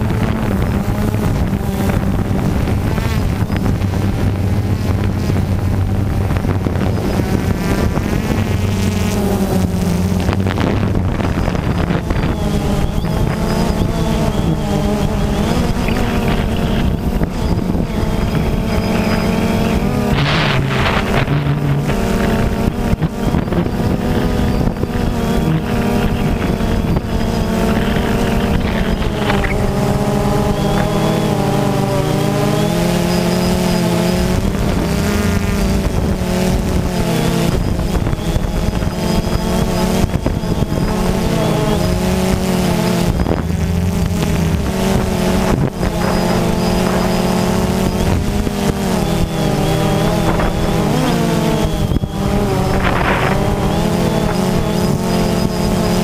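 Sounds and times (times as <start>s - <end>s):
drone propellers buzzing: 0.0s - 56.0s
wind noise on microphone: 0.0s - 56.0s.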